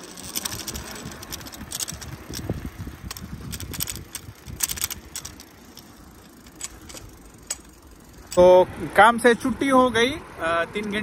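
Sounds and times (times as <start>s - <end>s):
bicycle rattling clicks: 0.0s - 9.1s
tyres rumbling: 0.0s - 11.0s
wind: 0.0s - 11.0s.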